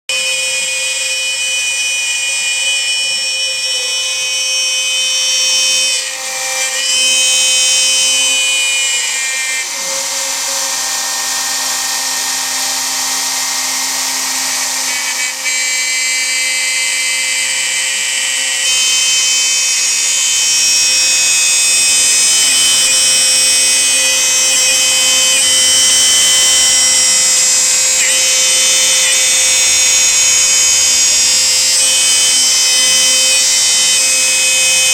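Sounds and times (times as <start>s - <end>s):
router motors whining: 0.1s - 34.9s.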